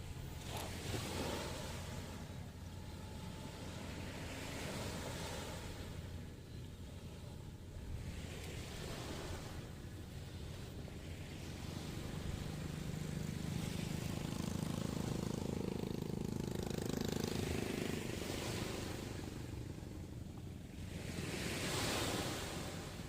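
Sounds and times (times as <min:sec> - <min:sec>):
low engine drone: 0:00.0 - 0:21.2
sea waves washing ashore: 0:00.0 - 0:23.0.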